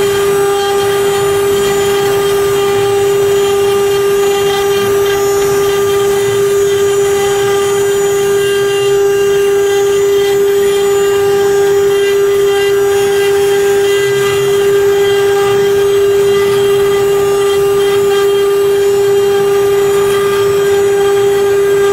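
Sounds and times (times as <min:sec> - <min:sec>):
router spindles whining: 0:00.0 - 0:21.9.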